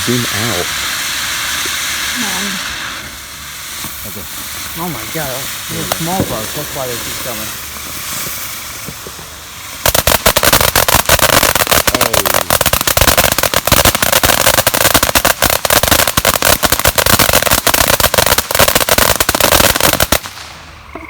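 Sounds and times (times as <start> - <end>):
firecrackers crackling: 0.0 - 20.9.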